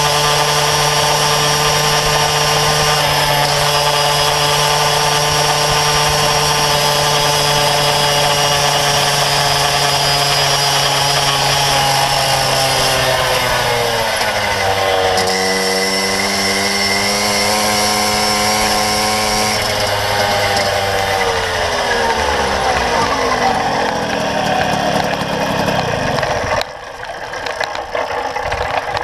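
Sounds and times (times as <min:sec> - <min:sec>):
moped engine running: 0:00.0 - 0:29.0.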